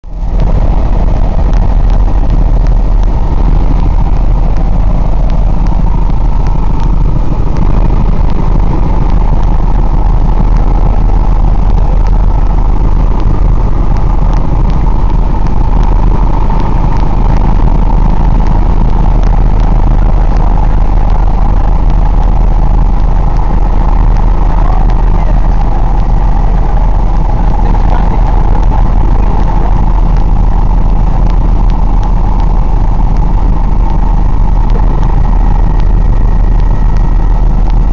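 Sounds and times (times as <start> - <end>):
helicopter engine and rotors drone: 0.0 - 37.9.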